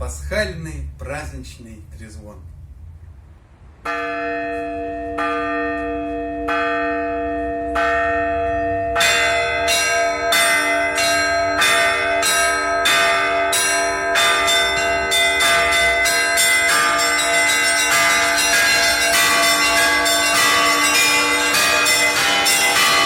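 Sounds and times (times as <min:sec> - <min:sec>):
church tower bells ringing: 0:03.8 - 0:23.0.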